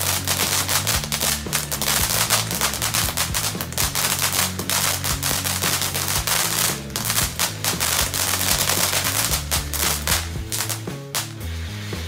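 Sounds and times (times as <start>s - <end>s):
rapid crackling pops: 0.0s - 11.4s
firework fountain hissing: 0.0s - 12.0s.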